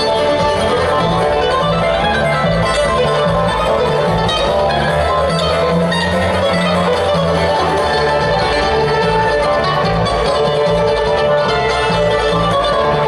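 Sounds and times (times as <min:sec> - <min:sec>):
banjo: 0:00.0 - 0:13.0
upright bass: 0:00.0 - 0:13.0.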